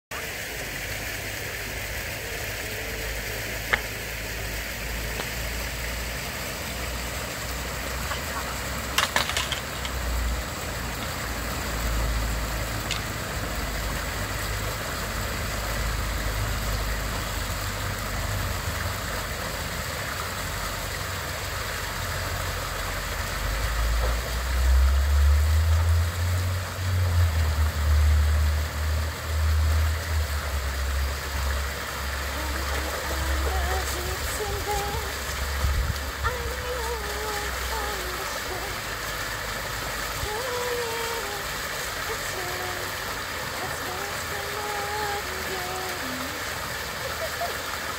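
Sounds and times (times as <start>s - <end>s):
fountain water splashing: 0.1s - 47.9s.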